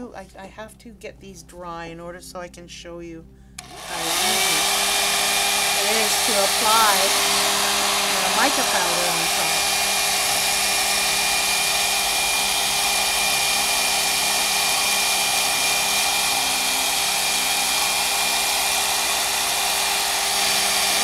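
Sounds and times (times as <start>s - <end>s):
hair dryer blowing: 3.6s - 21.0s.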